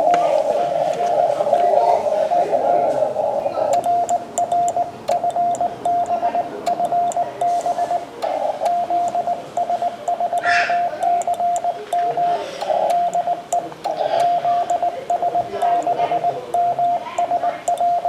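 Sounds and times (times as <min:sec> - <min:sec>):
faint static clicks: 0:00.0 - 0:18.0
morse code tone: 0:00.0 - 0:18.0
radio band noise: 0:00.0 - 0:18.0.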